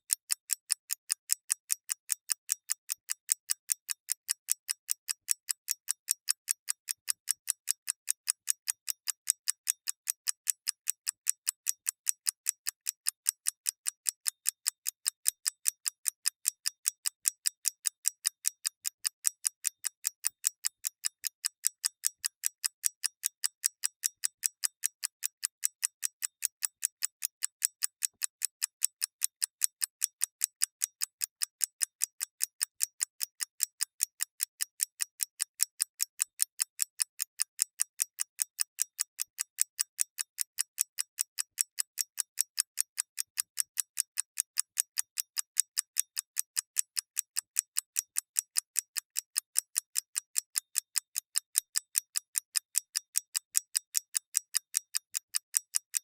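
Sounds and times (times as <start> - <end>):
mechanical clock ticking: 0.0 - 56.0.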